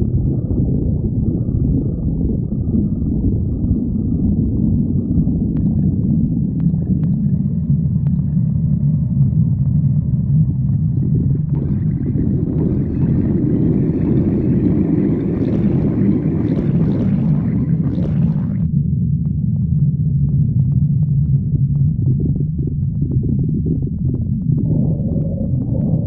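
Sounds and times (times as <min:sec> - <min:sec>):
stomach growling: 0:00.0 - 0:18.8, 0:19.8 - 0:26.0.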